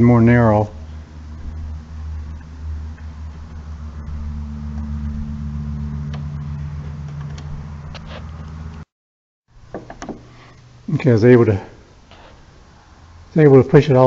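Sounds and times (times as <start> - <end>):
steady low hum: 0.0 - 8.9, 9.5 - 14.0.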